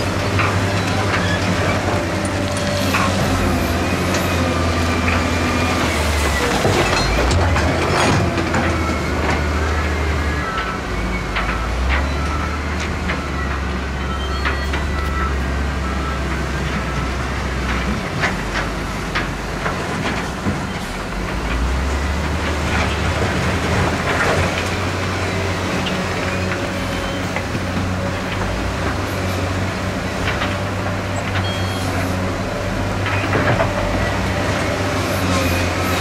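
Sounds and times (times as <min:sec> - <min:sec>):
diesel engine droning: 0:00.0 - 0:36.0.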